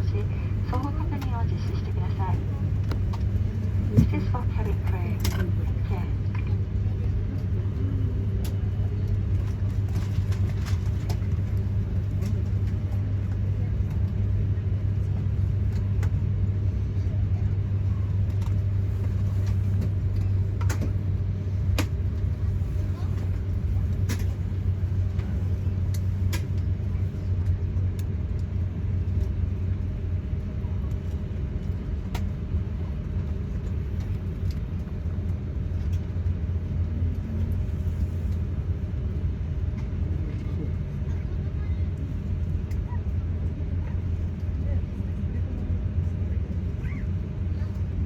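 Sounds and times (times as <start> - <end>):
airplane cabin hum: 0.0 - 48.0.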